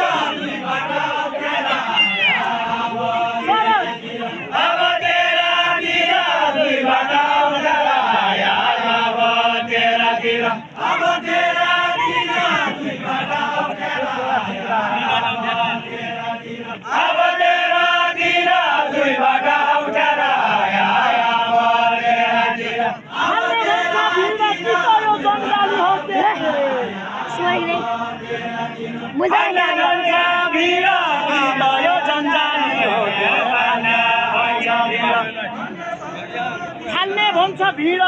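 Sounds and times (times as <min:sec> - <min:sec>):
voices chanting folk song: 0:00.0 - 0:38.0.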